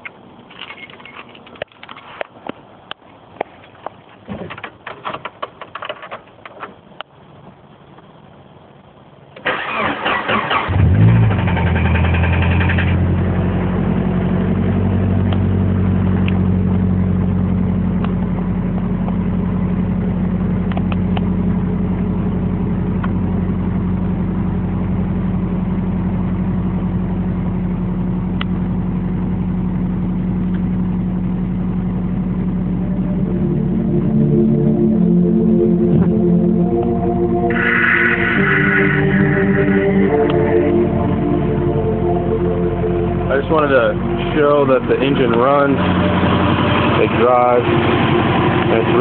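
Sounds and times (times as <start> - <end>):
car engine starting and idling: 9.4 - 49.0.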